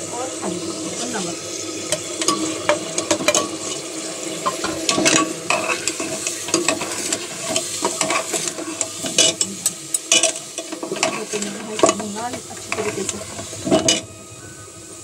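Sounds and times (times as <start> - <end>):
meat sizzling in oil: 0.0 - 15.0
metal ladle scraping pot: 1.9 - 14.1.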